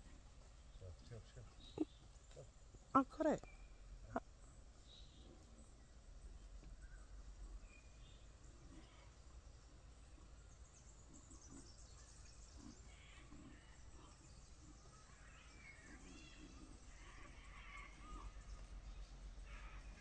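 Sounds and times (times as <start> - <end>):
distant bird calls: 0.0 - 20.0.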